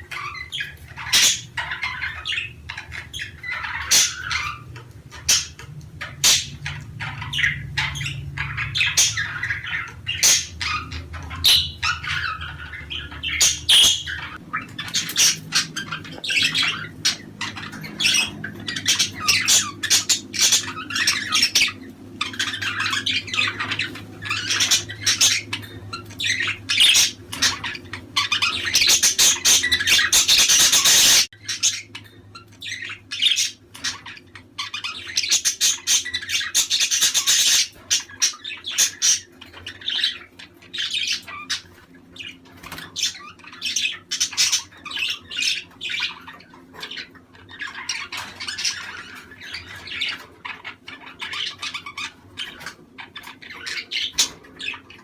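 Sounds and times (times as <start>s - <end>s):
budgerigars chattering and squawking: 0.0s - 55.0s.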